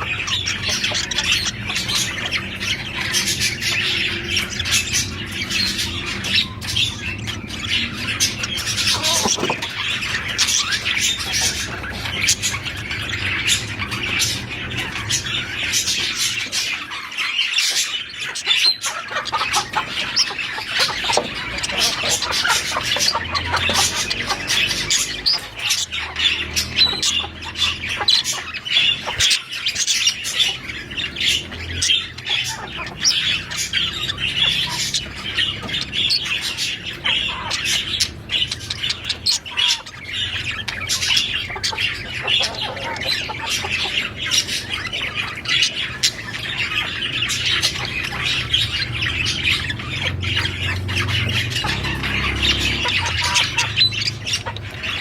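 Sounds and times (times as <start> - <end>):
budgerigars chattering and squawking: 0.0 - 55.0.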